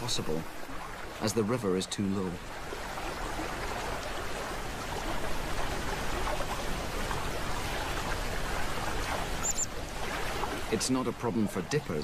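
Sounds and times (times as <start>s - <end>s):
river water running and splashing: 0.0s - 12.0s.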